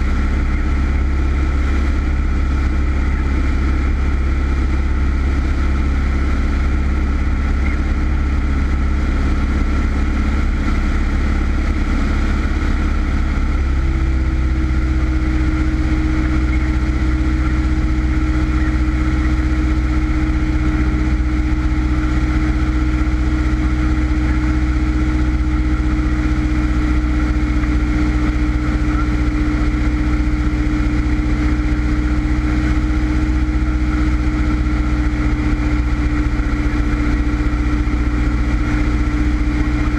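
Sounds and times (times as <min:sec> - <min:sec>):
aircraft engine drone in cockpit: 0:00.0 - 0:39.9
hum sinking in pitch: 0:00.0 - 0:39.9.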